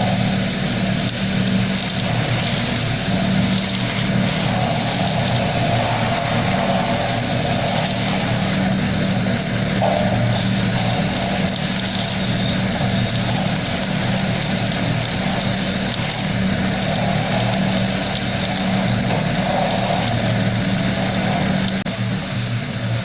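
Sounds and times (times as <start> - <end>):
hiss of compressed air and abrasive: 0.0 - 23.0
low mechanical hum: 0.0 - 23.0.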